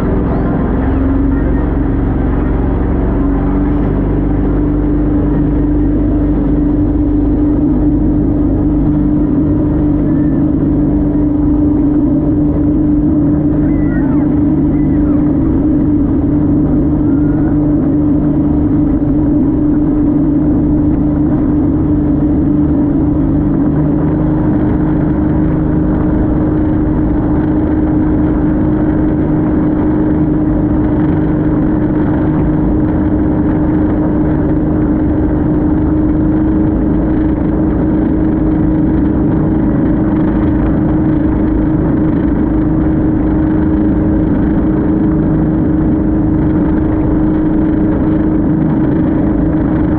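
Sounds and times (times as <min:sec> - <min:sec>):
speedboat engine droning: 0:00.0 - 0:49.9
water rushing: 0:00.0 - 0:49.9.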